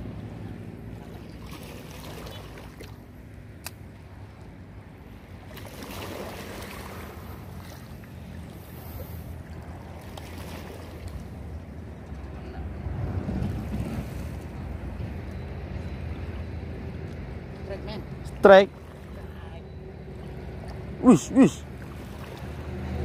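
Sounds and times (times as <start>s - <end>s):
seawater lapping at shore: 0.0s - 23.0s.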